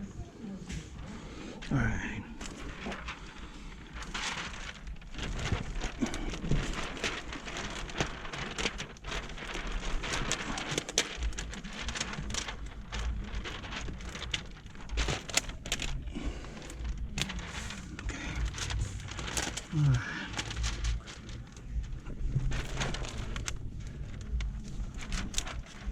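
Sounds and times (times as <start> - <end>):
plastic film crackling and rustling: 0.0 - 25.9.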